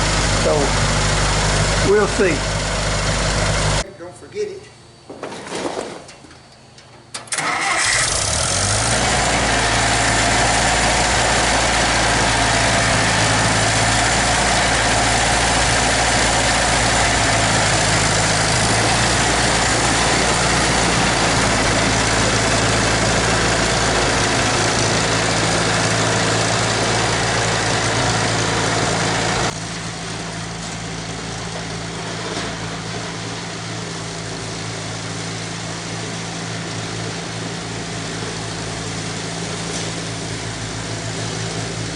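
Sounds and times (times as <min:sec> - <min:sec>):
tractor engine running: 0:00.0 - 0:03.9, 0:05.0 - 0:41.9.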